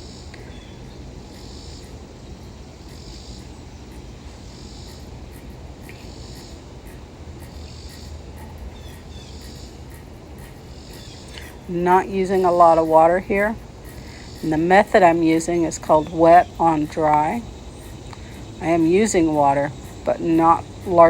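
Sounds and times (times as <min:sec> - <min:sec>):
cicadas buzzing in chorus: 0:00.0 - 0:21.0
low steady rumble: 0:00.0 - 0:21.0.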